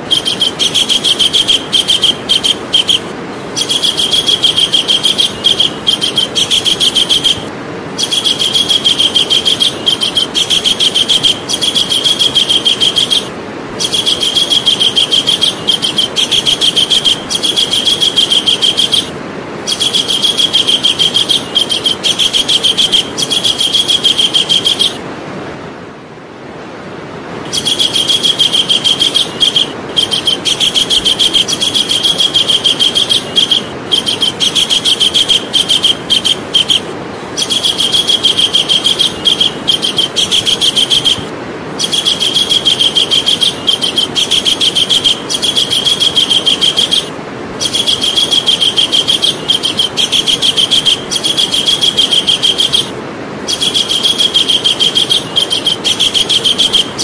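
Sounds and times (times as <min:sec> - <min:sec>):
kingfisher high chattering call: 0:00.0 - 0:25.0, 0:27.5 - 0:57.0.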